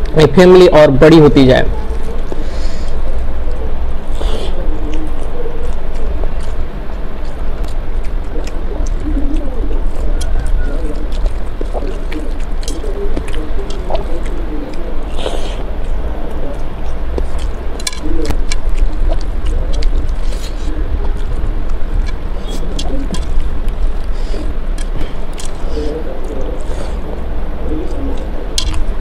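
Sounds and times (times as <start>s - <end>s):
wet chewing mouth smacks: 1.8s - 27.0s, 27.8s - 29.0s.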